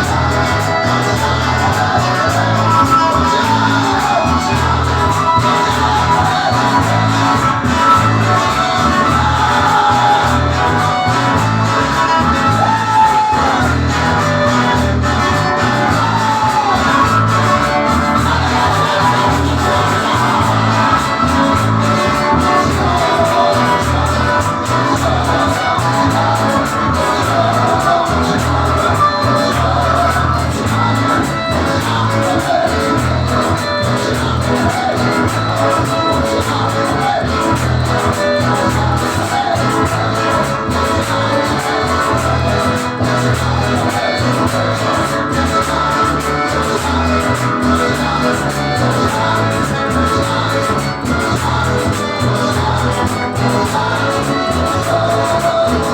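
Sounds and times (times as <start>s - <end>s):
live band music: 0.0s - 55.9s
person singing: 0.0s - 55.9s.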